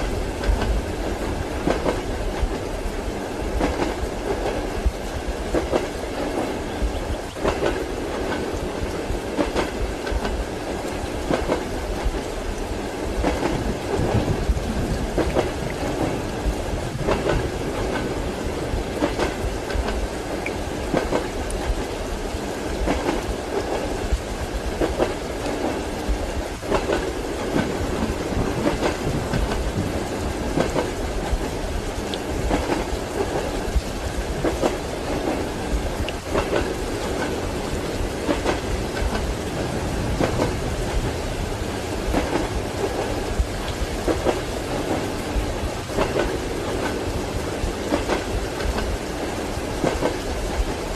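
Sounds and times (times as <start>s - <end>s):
train wheels clattering: 0.0s - 12.3s, 13.2s - 21.9s, 26.6s - 50.8s
rain falling: 0.0s - 50.9s
train running rumble: 0.0s - 50.9s.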